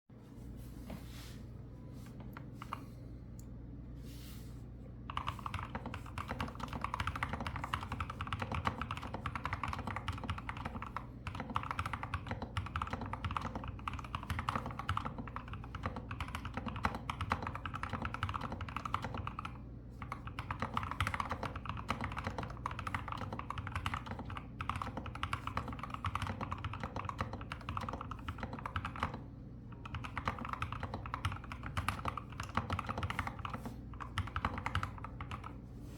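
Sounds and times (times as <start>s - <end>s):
fast typing on keyboard: 5.1s - 35.6s.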